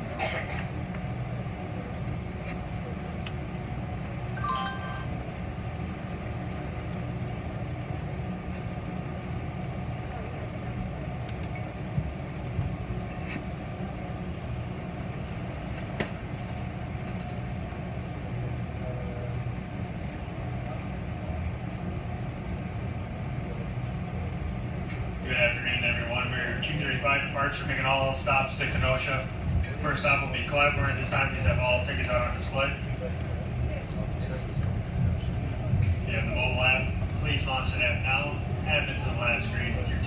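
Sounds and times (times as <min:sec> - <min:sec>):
train car rumble: 0:00.0 - 0:40.0.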